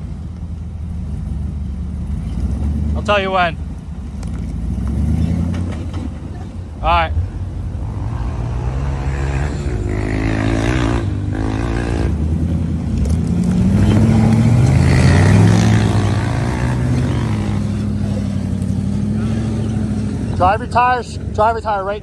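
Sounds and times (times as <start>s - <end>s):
engine working under load: 0.0s - 22.0s.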